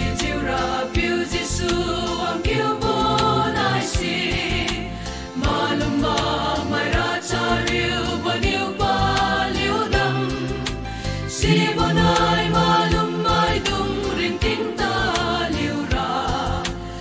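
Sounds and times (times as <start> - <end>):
backing music with steady beat: 0.0 - 17.0
choir singing a hymn: 0.0 - 17.0.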